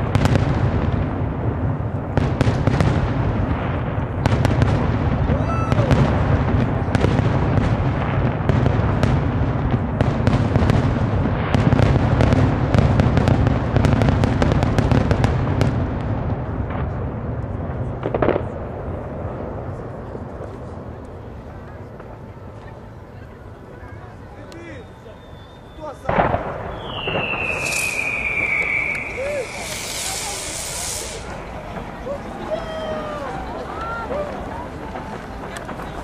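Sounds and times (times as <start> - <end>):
fireworks crackling and popping: 0.0 - 36.0.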